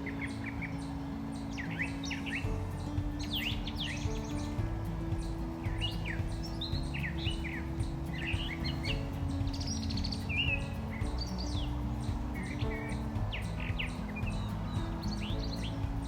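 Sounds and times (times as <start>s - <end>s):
soft acoustic music: 0.0s - 16.0s
songbirds chirping: 0.0s - 16.0s.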